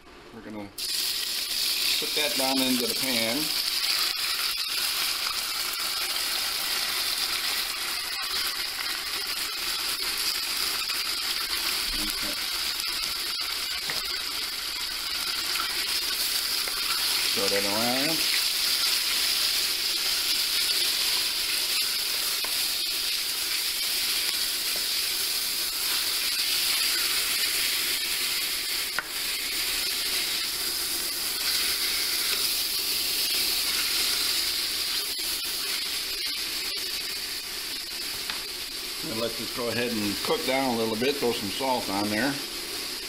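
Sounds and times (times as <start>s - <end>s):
chicken sizzling in a pan: 0.8s - 43.0s.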